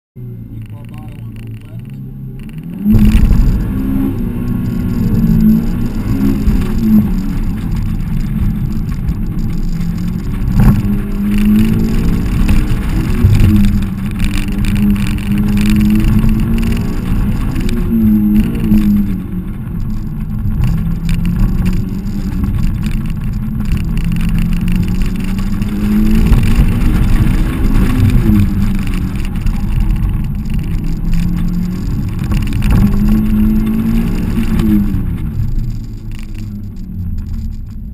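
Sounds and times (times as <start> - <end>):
car engine revving: 0.2 - 37.9.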